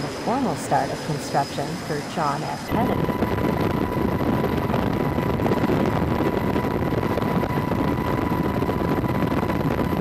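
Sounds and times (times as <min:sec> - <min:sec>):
high whine: 0:00.0 - 0:10.0
rushing wind: 0:00.0 - 0:10.0.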